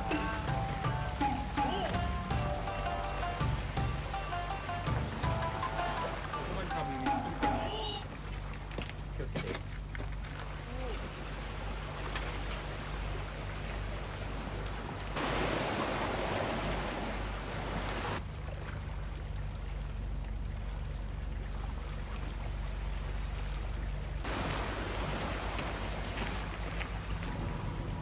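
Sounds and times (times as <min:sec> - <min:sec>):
sea waves washing in: 0:00.0 - 0:08.6, 0:10.6 - 0:18.9, 0:22.0 - 0:28.0
low steady hum: 0:00.0 - 0:28.0.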